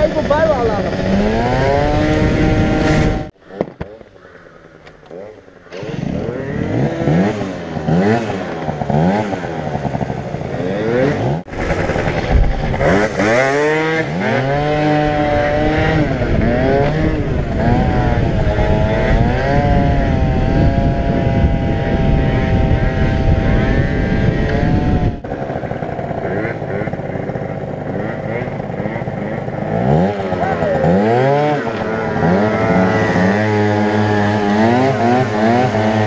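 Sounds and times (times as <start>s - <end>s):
scooter engine revving: 0.0s - 36.0s.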